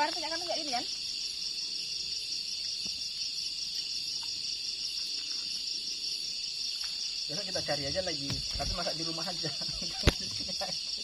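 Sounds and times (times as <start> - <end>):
forest insects chorus: 0.0 - 11.0.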